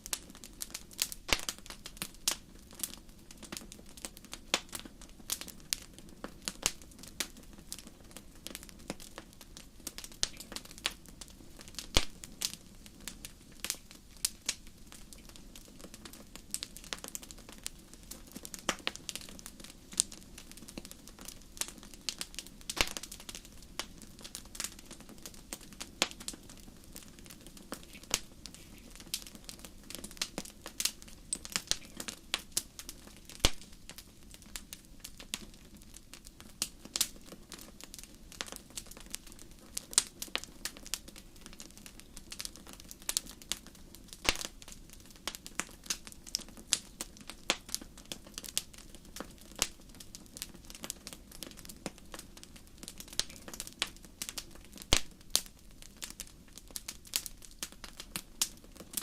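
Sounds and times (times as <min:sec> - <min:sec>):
burning wood snapping and popping: 0:00.0 - 0:59.0.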